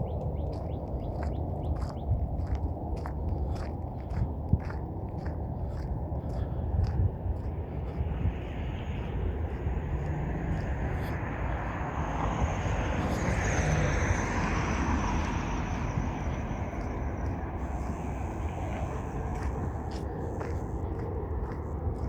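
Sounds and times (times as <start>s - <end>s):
engine rumble of passing machine: 0.0s - 22.0s.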